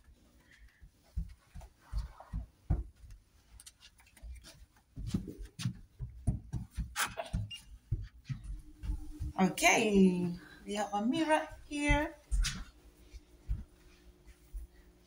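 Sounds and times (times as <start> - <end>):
soft footsteps thumping: 0.0 - 15.0.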